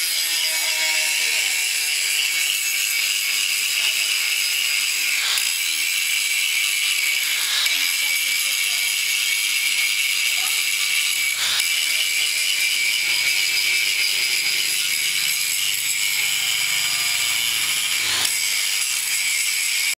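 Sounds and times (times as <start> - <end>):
angle grinder grinding metal: 0.0 - 19.9.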